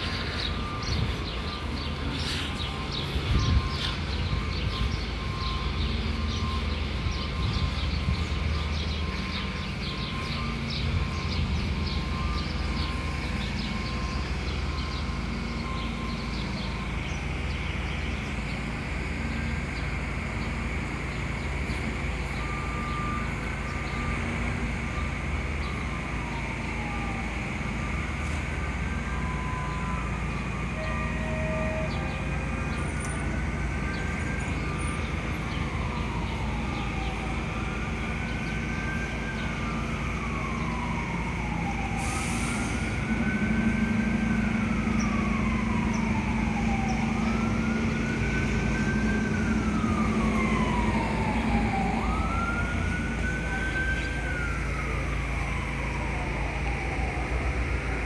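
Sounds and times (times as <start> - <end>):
fire siren wailing: 0.0 - 58.0
fire truck engine idling: 0.0 - 58.0.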